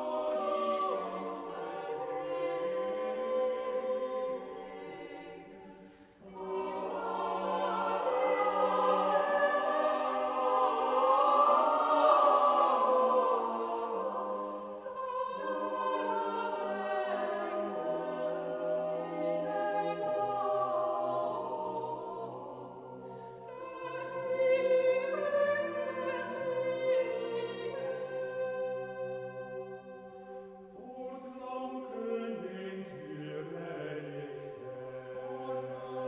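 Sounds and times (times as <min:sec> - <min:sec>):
vocal ensemble singing unaccompanied: 0:00.0 - 0:36.0.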